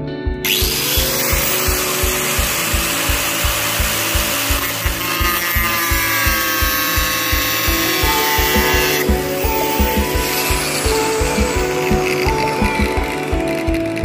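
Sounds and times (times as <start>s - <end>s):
background music with steady beat: 0.0s - 14.0s
angle grinder cutting steel: 0.5s - 14.0s.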